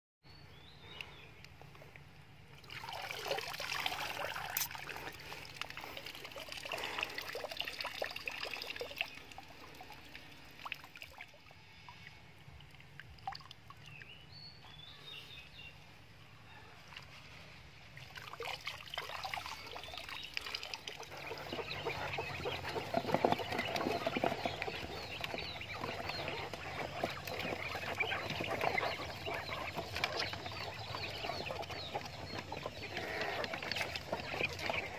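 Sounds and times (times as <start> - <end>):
water trickling and dripping: 2.5 - 14.2, 18.0 - 34.9.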